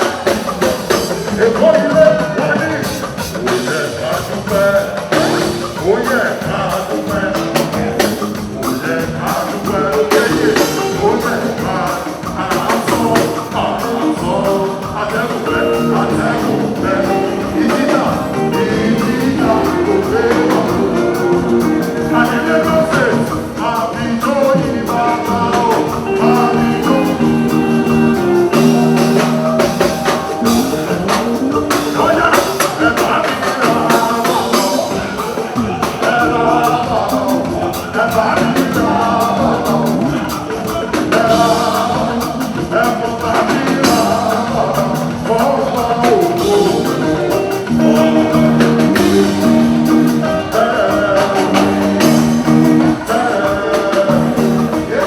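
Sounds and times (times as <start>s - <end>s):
person singing: 0.0s - 55.0s
steady percussion beat: 0.0s - 55.0s.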